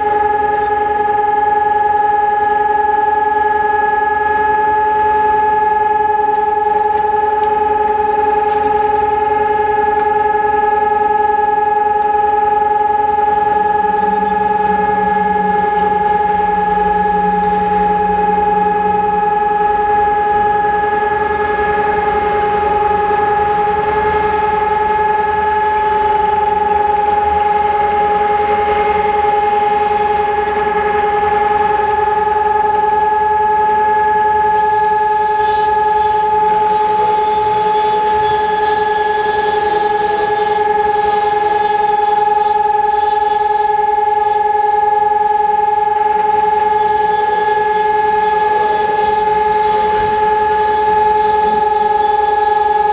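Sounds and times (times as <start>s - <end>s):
siren steady test tone: 0.0s - 52.9s.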